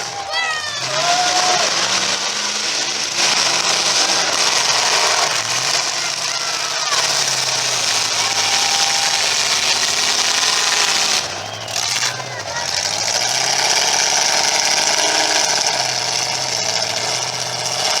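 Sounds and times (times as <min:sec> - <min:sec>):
car engines revving hard: 0:00.0 - 0:18.0.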